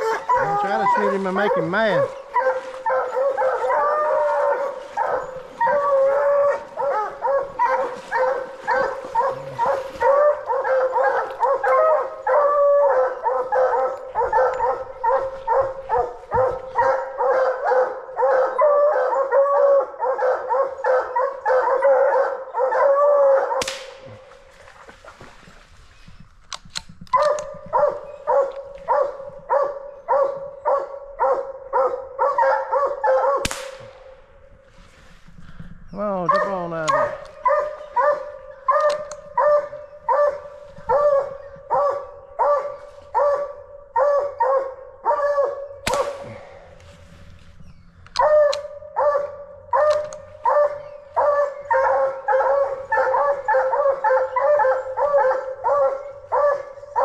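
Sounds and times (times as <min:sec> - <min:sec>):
hounds barking rapidly: 0:00.0 - 0:23.7, 0:27.1 - 0:33.5, 0:36.1 - 0:46.1, 0:48.2 - 0:57.0.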